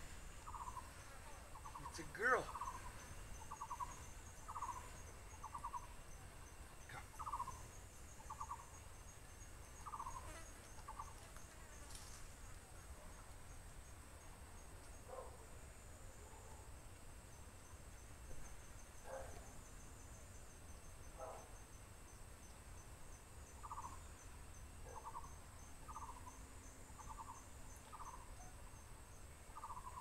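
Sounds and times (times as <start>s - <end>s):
faint insect chirping: 0.0s - 30.0s.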